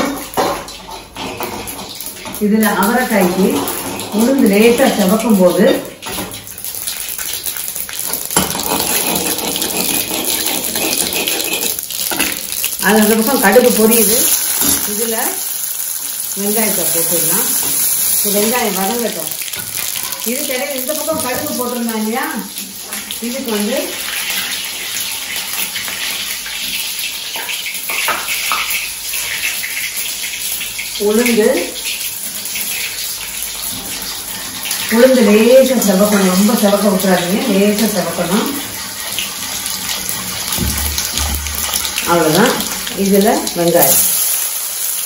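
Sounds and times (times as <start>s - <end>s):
seeds spluttering in hot oil: 0.0s - 45.0s.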